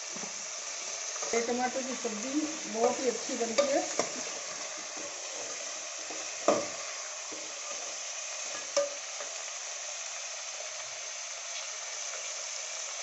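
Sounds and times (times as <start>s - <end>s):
tomatoes sizzling in oil: 0.0s - 13.0s.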